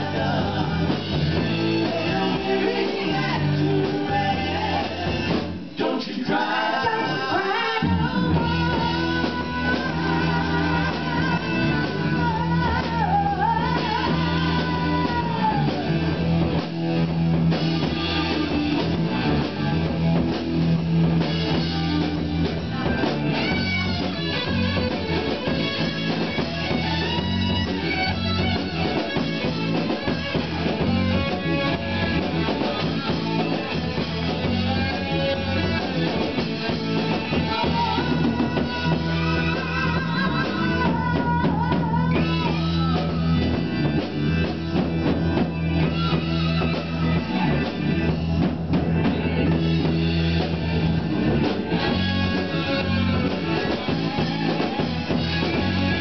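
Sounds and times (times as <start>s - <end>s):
woman singing lead: 0.0s - 16.6s, 21.2s - 48.2s, 51.2s - 56.0s
rhythm and blues band playing: 0.0s - 56.0s.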